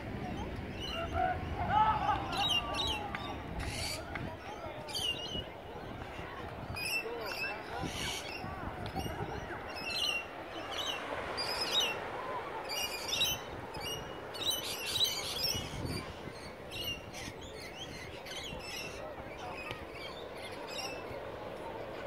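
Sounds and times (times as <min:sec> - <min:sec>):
steady background murmur: 0:00.0 - 0:22.0.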